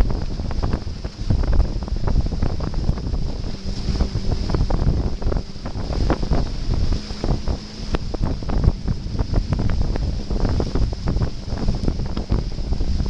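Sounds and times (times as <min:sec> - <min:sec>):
boat engine running faintly: 0:00.0 - 0:13.0
water rushing and splashing: 0:00.0 - 0:13.0
wind buffeting microphone: 0:00.0 - 0:13.0.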